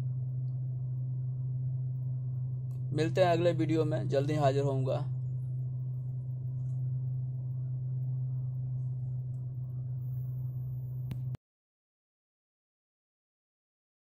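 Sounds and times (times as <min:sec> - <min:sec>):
vehicle engine drone: 0:00.0 - 0:11.4.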